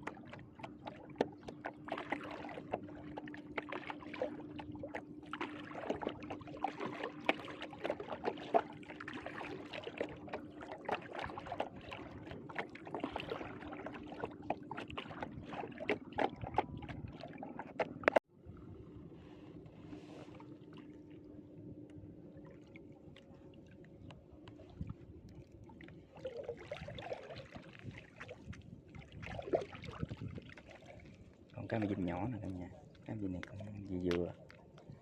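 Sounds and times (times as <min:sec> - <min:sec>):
water splashing and sloshing: 0:00.0 - 0:35.0.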